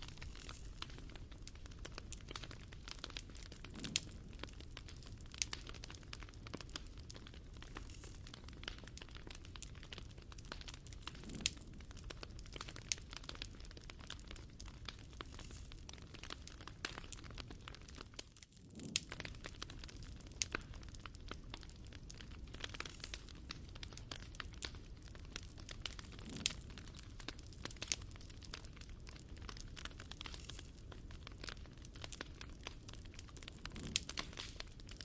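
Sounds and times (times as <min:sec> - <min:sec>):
fire crackling and popping: 0:00.0 - 0:35.0
soft rumble of flames: 0:00.0 - 0:35.0.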